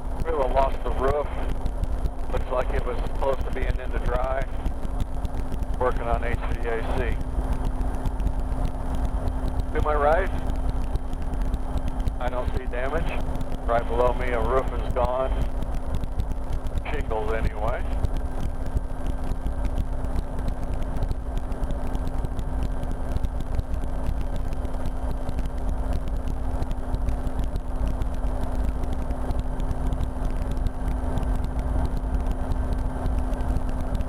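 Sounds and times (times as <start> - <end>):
helicopter engine and rotor drone: 0.0 - 34.0.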